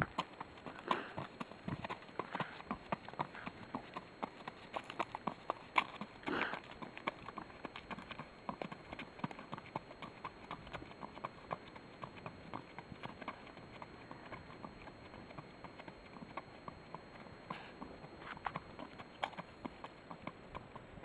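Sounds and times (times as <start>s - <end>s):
hooves on sandy ground: 0.0s - 21.0s.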